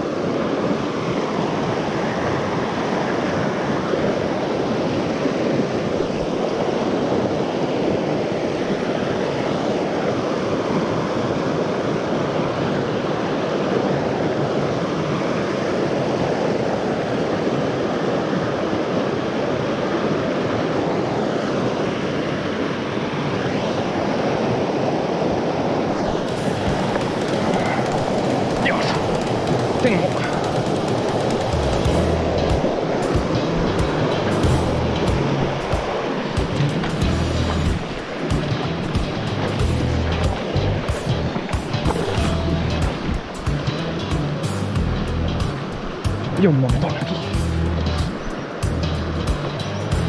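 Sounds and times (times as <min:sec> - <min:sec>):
flowing water rushing: 0:00.0 - 0:50.0.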